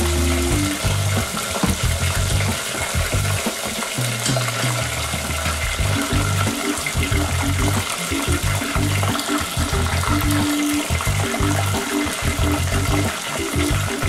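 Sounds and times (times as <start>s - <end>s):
background music with low notes: 0.0s - 4.5s, 5.5s - 14.0s
hot oil sizzling: 0.0s - 14.0s.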